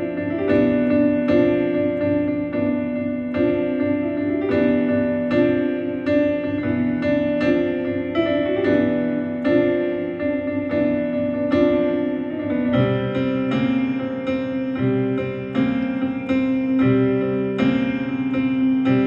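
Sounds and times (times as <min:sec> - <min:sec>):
bass piano notes: 0:00.0 - 0:19.0
piano melody: 0:00.0 - 0:19.0.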